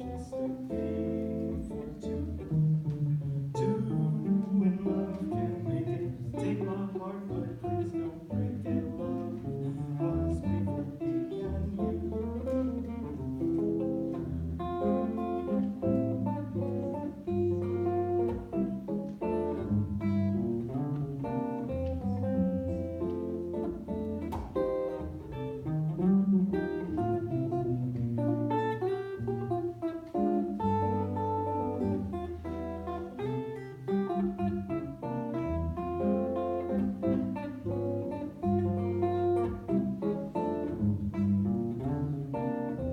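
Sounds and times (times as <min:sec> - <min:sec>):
solo jazz guitar: 0:00.0 - 0:42.9.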